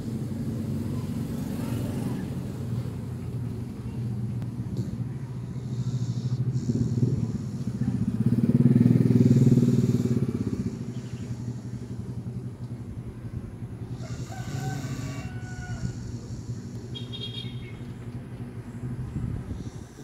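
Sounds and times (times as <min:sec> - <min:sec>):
low rumbling snoring: 0:00.0 - 0:17.0, 0:18.7 - 0:20.0.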